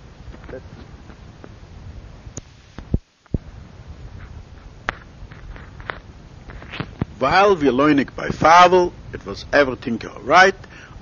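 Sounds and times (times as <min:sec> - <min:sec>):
recording hiss and hum: 0:00.0 - 0:11.0.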